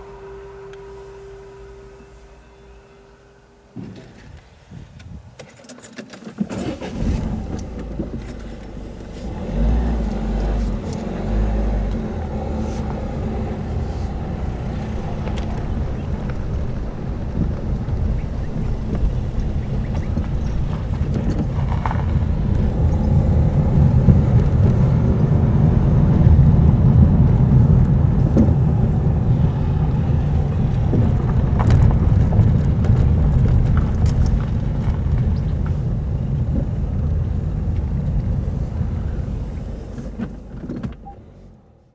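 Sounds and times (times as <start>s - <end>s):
car engine and tyre rumble: 3.5s - 41.9s.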